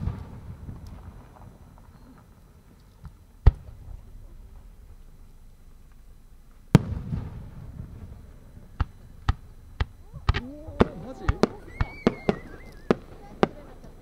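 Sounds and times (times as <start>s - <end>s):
firework shells bursting: 2.8s - 14.0s.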